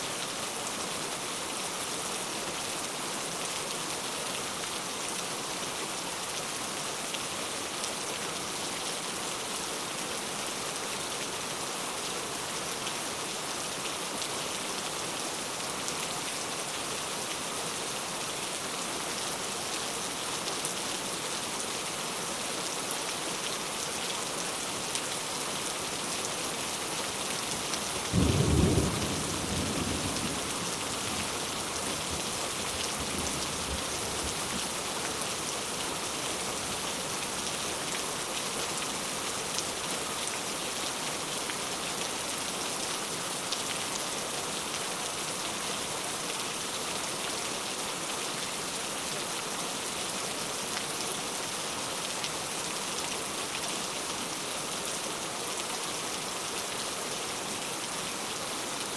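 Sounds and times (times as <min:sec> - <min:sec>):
heavy rain falling: 0:00.1 - 0:58.9.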